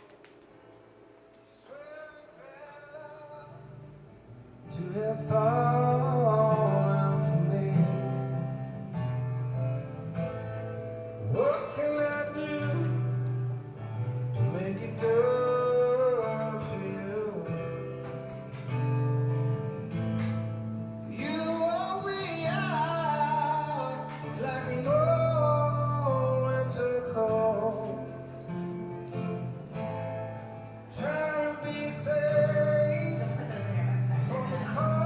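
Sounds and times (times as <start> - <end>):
song with guitar and singing: 1.3 - 35.0.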